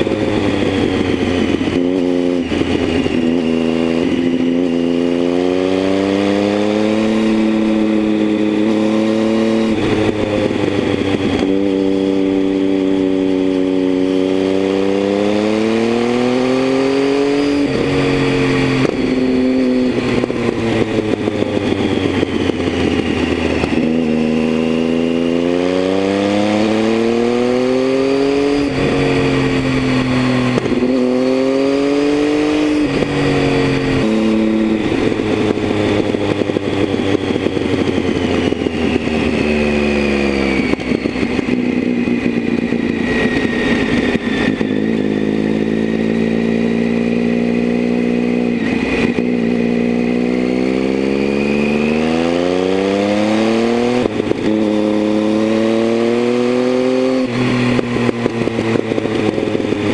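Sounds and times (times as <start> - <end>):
gear shift pitch drops: 0.0 - 59.9
motorcycle engine revving: 0.0 - 59.9.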